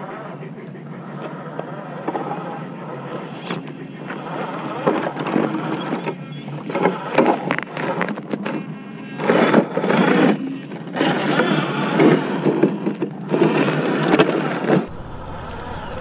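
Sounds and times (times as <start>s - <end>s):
whirring electric motor: 0.0s - 16.0s.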